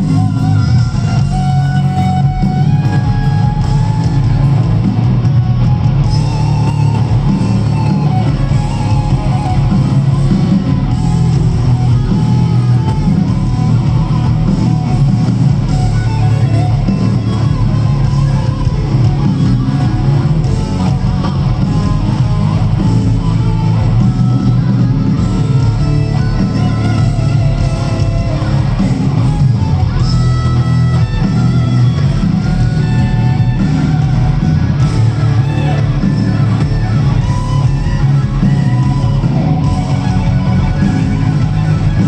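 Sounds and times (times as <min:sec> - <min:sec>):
bending electric guitar melody: 0:00.0 - 0:42.0
live rock band playing: 0:00.0 - 0:42.0.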